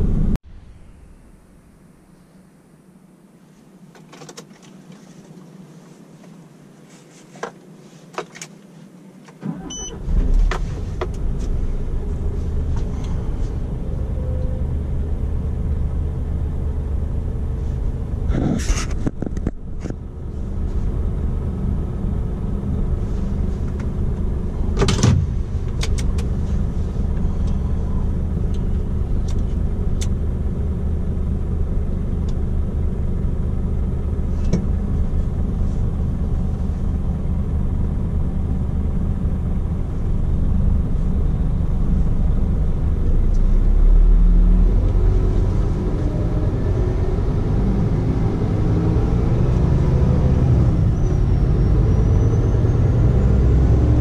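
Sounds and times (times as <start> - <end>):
diesel truck engine starting and running: 9.4 - 54.0.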